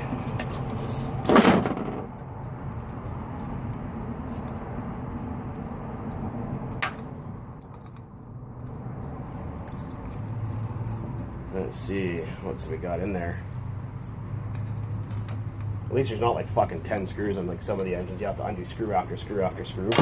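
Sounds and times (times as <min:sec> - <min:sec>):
metal tools clicking and clinking: 0:01.8 - 0:05.0, 0:05.6 - 0:20.0.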